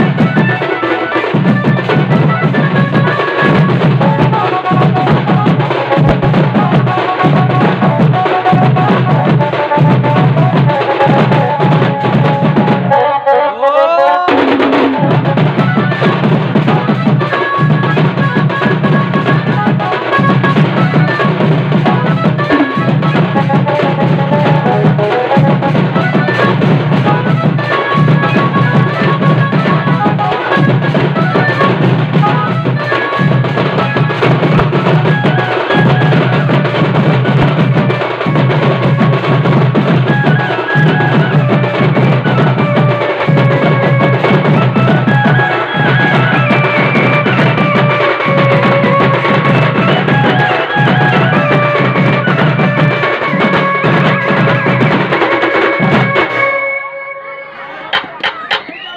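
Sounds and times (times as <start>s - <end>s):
barrel drums and hand drums beaten: 0.0s - 13.4s, 14.1s - 56.6s, 57.8s - 58.9s
melody line over drums: 0.0s - 57.3s.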